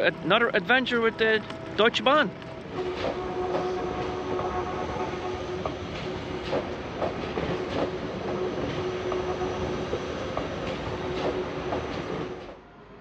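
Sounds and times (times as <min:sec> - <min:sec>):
train wheels clacking over rails: 0:00.0 - 0:12.6.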